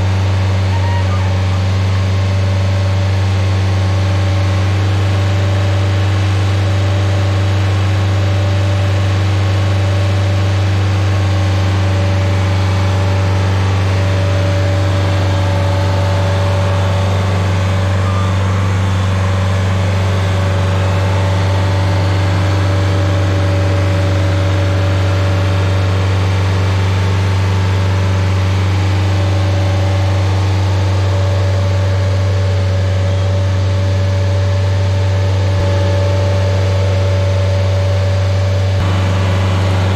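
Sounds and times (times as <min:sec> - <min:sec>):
stump grinder engine droning: 0:00.0 - 0:39.9.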